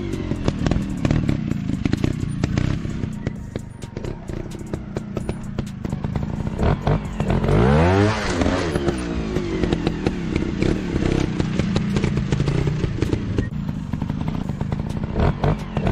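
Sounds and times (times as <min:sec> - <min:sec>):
dirt bike engines running: 0:00.0 - 0:15.9.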